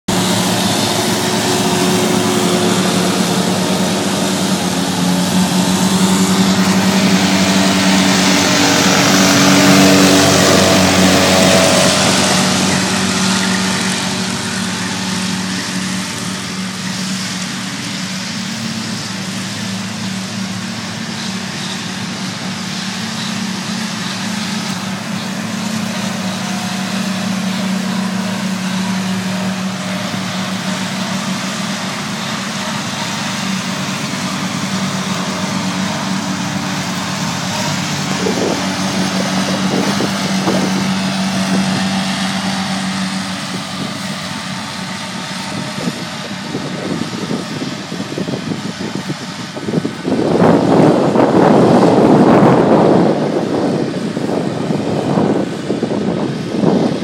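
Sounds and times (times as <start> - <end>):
tractor engine running: 0.0 - 57.0
rushing hiss: 0.1 - 51.8.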